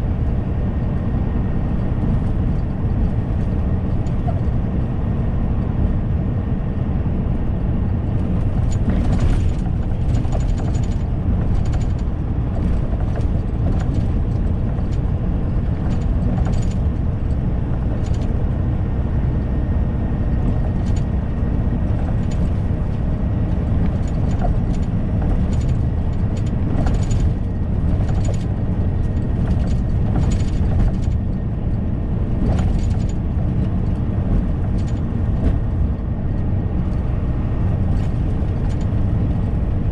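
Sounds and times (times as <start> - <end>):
engine and road rumble: 0.0 - 39.9
light rattles and clicks: 1.8 - 4.9, 8.0 - 39.9.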